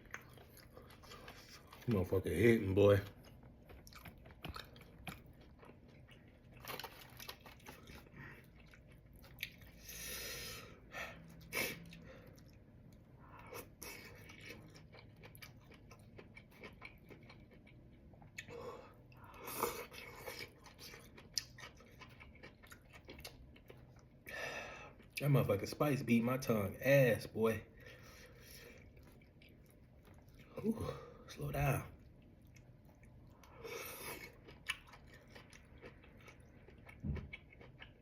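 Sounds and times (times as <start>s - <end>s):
person chewing and crunching food: 0.0s - 25.2s, 27.7s - 38.0s.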